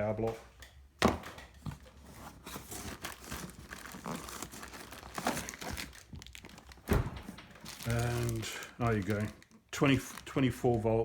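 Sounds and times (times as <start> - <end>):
packaging crinkling and rustling: 1.2 - 11.0.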